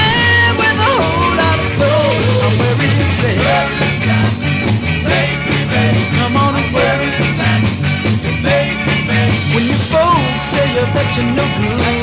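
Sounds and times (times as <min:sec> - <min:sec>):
lead vocals singing: 0:00.0 - 0:12.0
steady drum beat: 0:00.0 - 0:12.0
stepping bass line: 0:00.0 - 0:12.0
upbeat soul music: 0:00.0 - 0:12.0.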